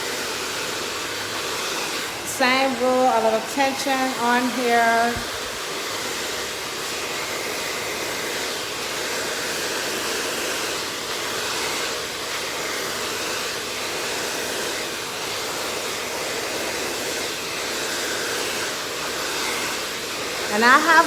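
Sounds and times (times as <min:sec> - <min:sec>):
blow dryer running: 0:00.0 - 0:21.0.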